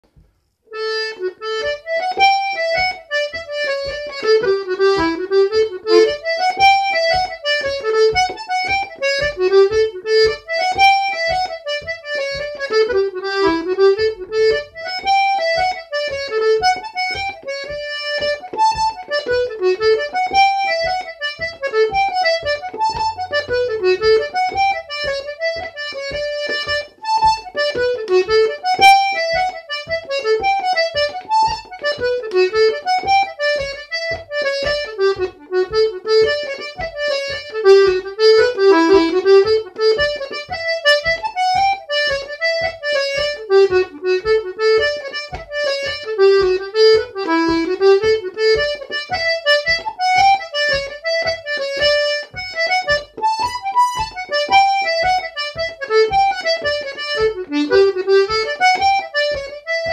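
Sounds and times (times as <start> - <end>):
button accordion playing a jig: 0.1 - 59.9.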